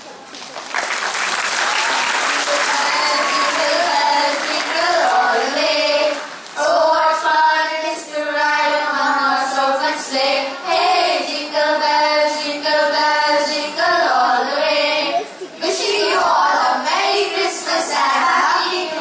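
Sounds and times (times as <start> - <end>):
children singing together: 2.4 - 19.0.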